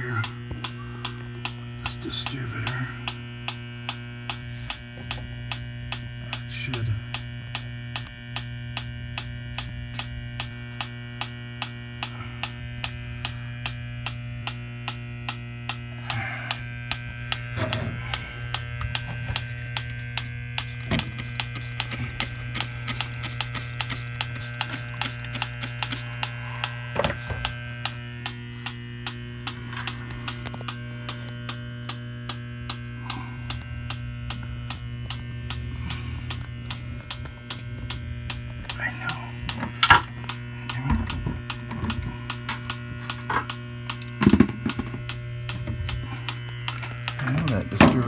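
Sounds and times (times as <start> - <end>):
electrical hum: 0.0 - 48.0
regular ticking: 0.0 - 48.0.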